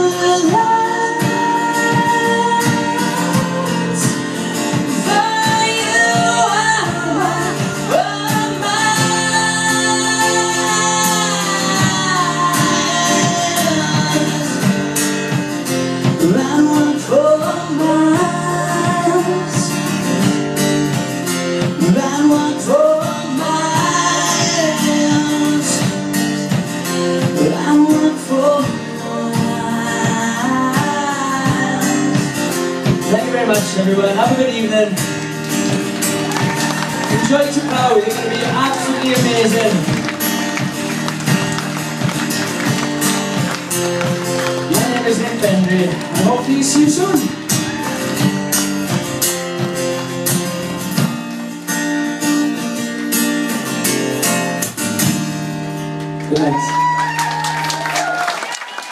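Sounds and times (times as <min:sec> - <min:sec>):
guitar accompaniment: 0:00.0 - 0:58.9.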